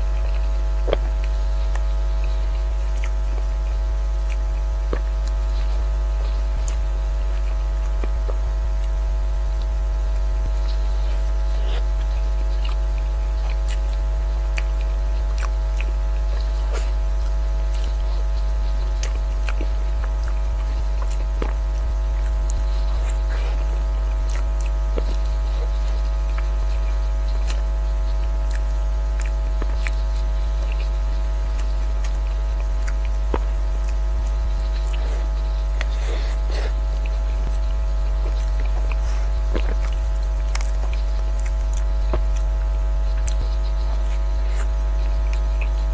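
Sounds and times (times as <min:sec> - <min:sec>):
electrical mains hum: 0:00.0 - 0:45.9
mouth eating from a spoon: 0:00.0 - 0:45.9.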